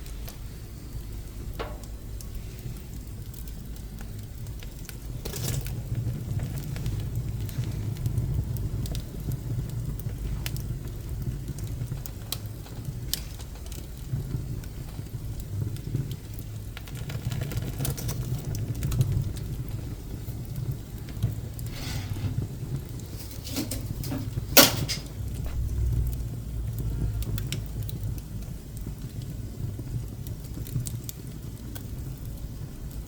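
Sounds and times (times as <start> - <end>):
fire crackles and pops: 0.0 - 33.0
low rumble of fire: 0.0 - 33.0.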